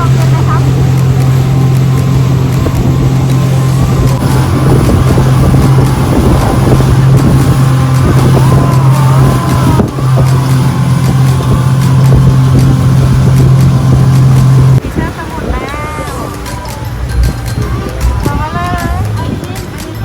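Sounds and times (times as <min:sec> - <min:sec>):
loud rushing noise: 0:00.0 - 0:19.4
motorboat engine humming: 0:00.0 - 0:20.0.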